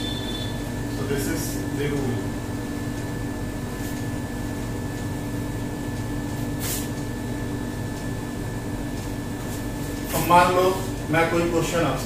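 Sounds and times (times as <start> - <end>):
mechanical room hum: 0.0 - 12.0.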